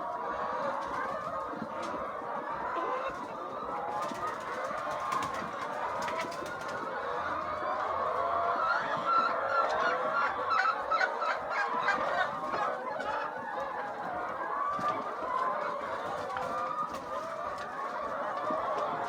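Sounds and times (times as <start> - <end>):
hens clucking and calling: 0.0 - 19.0.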